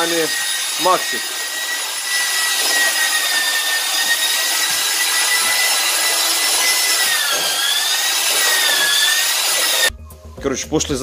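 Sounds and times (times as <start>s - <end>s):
electric paddle mixer stirring mortar: 0.0s - 9.9s.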